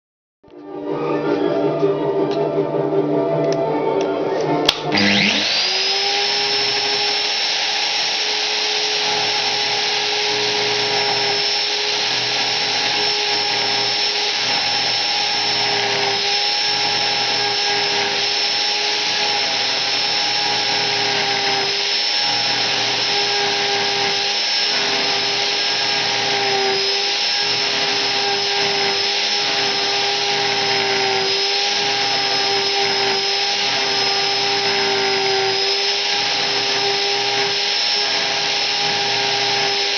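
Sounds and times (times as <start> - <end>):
cutter carving wood: 4.6 - 39.9
high-speed motor whining: 4.6 - 39.9.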